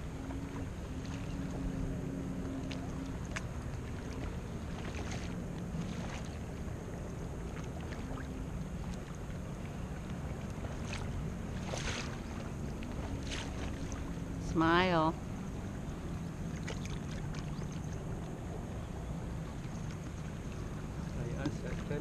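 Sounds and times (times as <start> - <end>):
low steady hum: 0.0 - 22.0
water sloshing around hull: 0.0 - 22.0
paddle splashes: 2.4 - 14.9, 15.7 - 18.3, 19.2 - 22.0.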